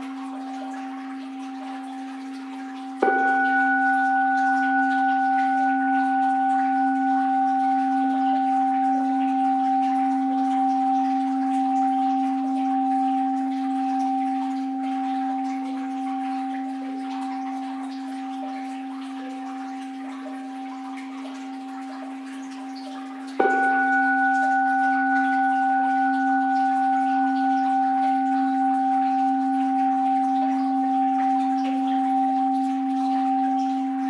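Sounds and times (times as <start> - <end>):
bowl bell ringing: 0.0 - 34.0
faint running water: 0.0 - 34.0.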